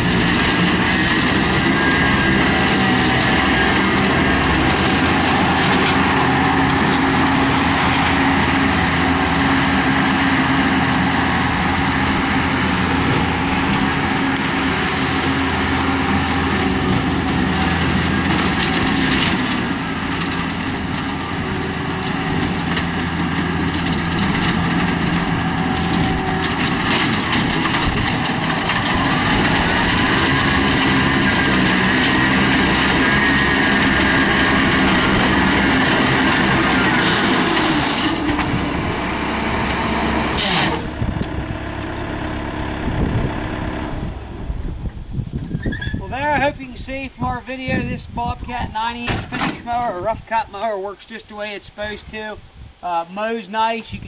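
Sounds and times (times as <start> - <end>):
loader engine running: 0.0 - 53.0
mower blades cutting grass: 0.0 - 54.0.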